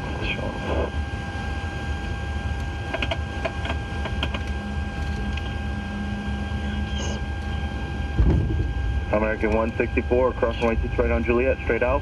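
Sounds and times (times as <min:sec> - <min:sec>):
airliner engines rumbling: 0:00.0 - 0:12.0
steady hum: 0:00.0 - 0:12.0.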